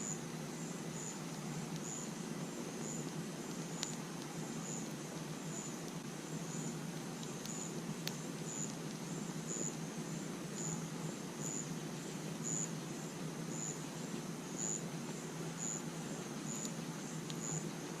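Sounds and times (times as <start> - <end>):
burning wood crackles: 0.0 - 18.0
crickets chirping: 0.0 - 18.0
fire pit rushing: 0.0 - 18.0.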